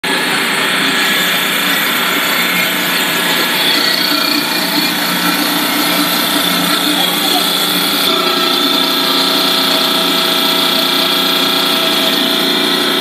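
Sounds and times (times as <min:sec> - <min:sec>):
production line machine whirring: 0:00.0 - 0:13.0.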